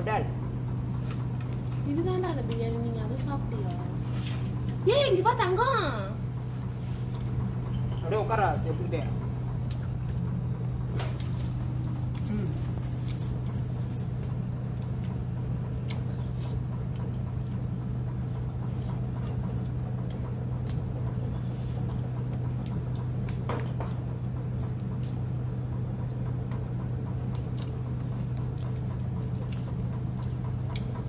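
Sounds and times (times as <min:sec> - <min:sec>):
steady low hum: 0:00.0 - 0:31.0
people eating with hands: 0:00.4 - 0:05.6, 0:08.8 - 0:31.0.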